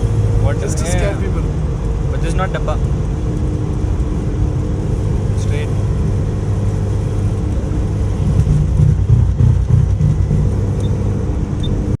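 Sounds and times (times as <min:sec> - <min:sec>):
car engine with low exhaust burble: 0:00.0 - 0:12.0.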